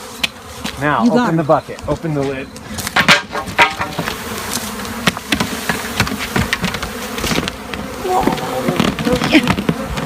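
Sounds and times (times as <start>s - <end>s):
bee swarm buzzing: 0.0s - 10.0s.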